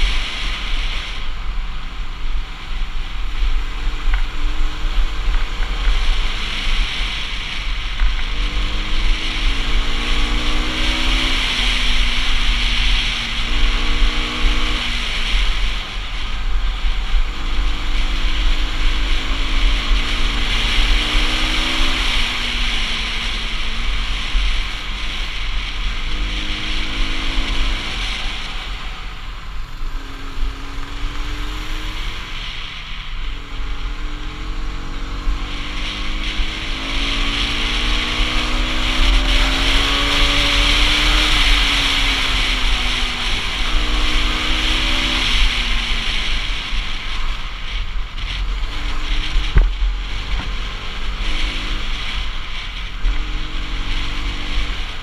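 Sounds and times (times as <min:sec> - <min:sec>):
motorcycle engine revving: 0:00.0 - 0:55.0
wind rumble on microphone: 0:00.0 - 0:55.0.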